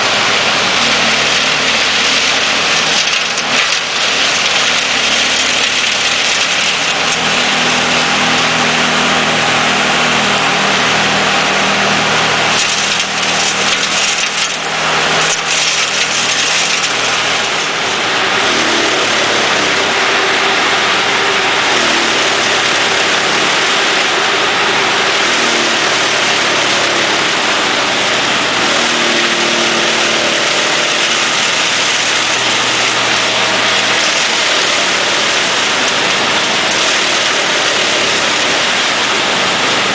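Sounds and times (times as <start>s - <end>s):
wood chipper diesel engine: 0.0s - 39.9s.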